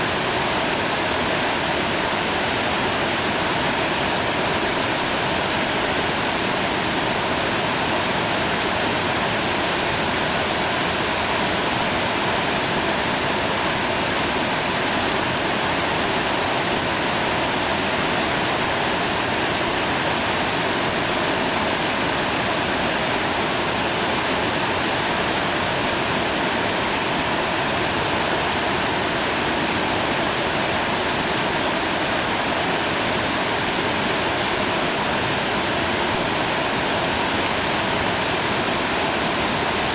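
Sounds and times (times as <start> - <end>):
whitewater rapid rushing: 0.0 - 39.9.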